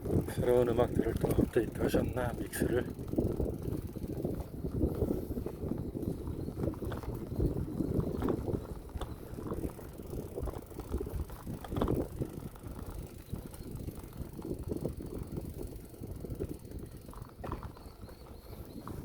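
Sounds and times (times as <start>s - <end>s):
bicycle rattling and clicking: 0.0s - 19.0s
wind buffeting microphone: 0.0s - 19.0s.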